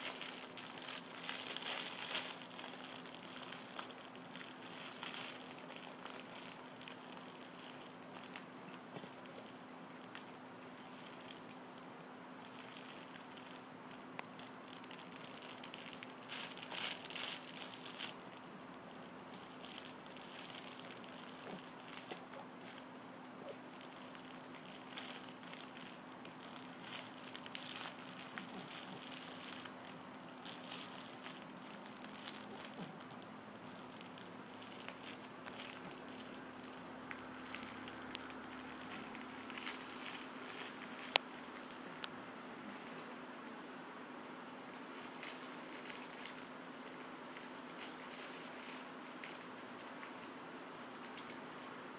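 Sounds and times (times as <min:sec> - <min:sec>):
cloth book rustling and crinkling: 0:00.0 - 0:11.6, 0:12.3 - 0:51.6
faint steady hum: 0:00.0 - 0:51.9.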